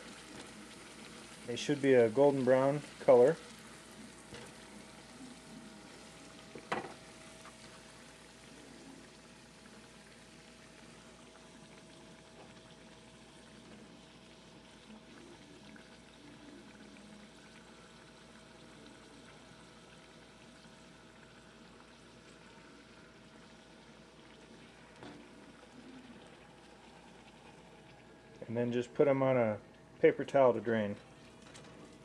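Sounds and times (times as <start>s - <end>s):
dough sizzling in oil: 0.0s - 32.0s.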